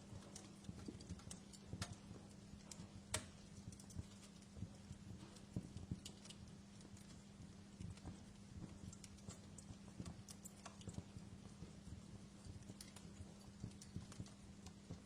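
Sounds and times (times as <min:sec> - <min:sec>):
low steady hum: 0:00.0 - 0:15.0
wood fire crackling: 0:00.0 - 0:15.0.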